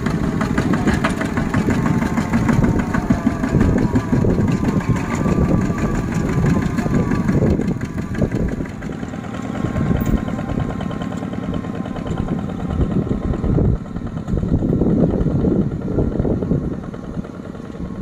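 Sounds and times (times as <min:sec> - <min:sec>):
diesel tractor engine chugging: 0:00.0 - 0:18.0.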